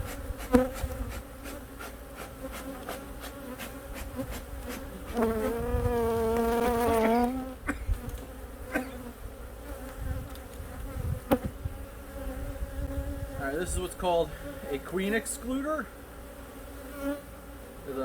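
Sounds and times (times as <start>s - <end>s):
bee humming close by: 0.0s - 18.0s
bees buzzing: 0.0s - 18.0s.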